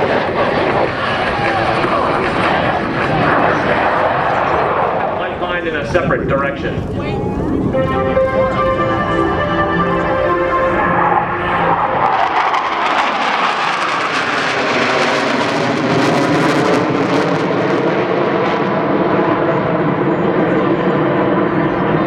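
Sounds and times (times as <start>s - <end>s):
jet roar flying past: 0.0s - 22.0s.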